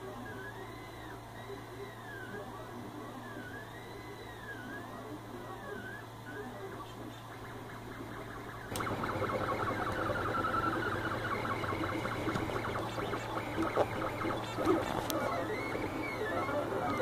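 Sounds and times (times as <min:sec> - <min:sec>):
steady low hum: 0:00.0 - 0:17.0
stepper motors whirring: 0:00.0 - 0:17.0.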